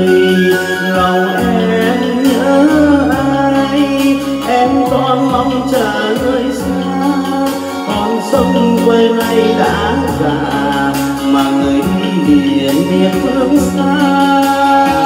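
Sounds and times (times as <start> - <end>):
karaoke backing track: 0.0 - 15.0
man singing into microphone: 0.0 - 15.0.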